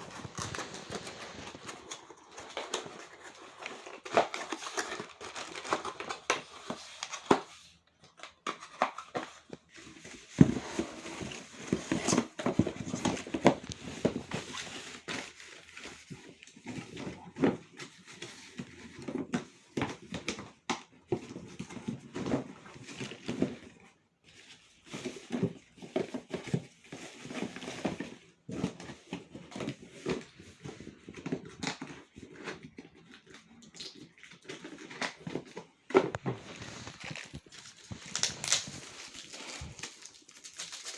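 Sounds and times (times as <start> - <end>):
packaging rustling and crinkling: 0.0 - 40.9.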